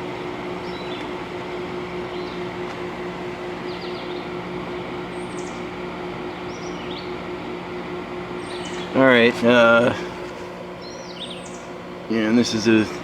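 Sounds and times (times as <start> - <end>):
dehumidifier fan running: 0.0 - 13.0.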